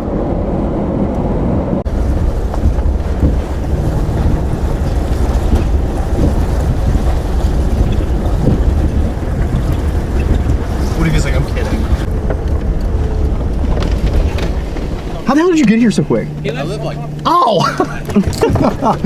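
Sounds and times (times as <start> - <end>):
vehicle rumbling: 0.0 - 19.0
wind buffeting microphone: 0.0 - 19.0.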